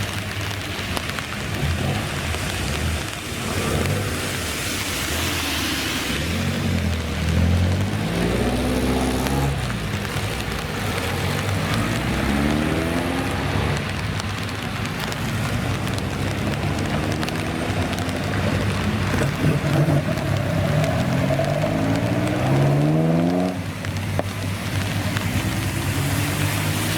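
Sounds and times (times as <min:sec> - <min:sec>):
road and wind noise: 0:00.0 - 0:26.9
car engine accelerating: 0:00.4 - 0:26.9.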